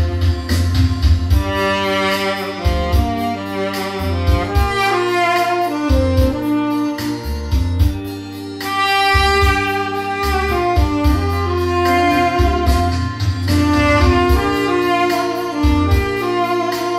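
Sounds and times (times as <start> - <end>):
backing track with bass and drums: 0.0 - 16.9
tenor saxophone melody: 0.0 - 16.9.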